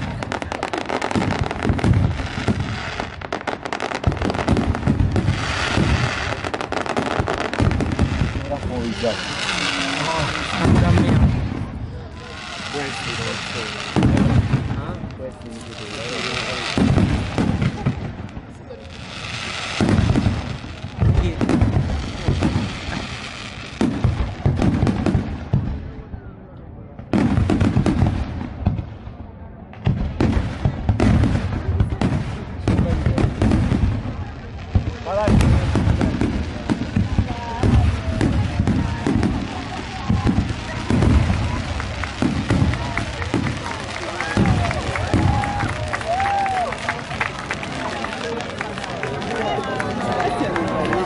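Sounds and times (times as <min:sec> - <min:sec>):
fireworks bangs and booms: 0:00.0 - 0:51.0.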